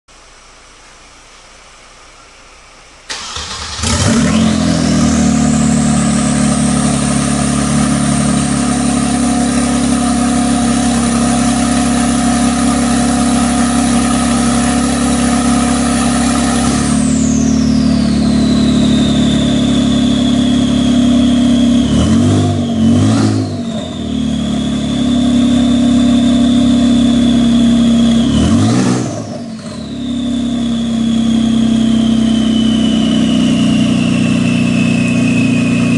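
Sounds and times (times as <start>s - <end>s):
high engine whine: 0.1s - 35.9s
car engine starting and idling: 0.4s - 35.9s
engine throttle blips: 2.1s - 35.9s.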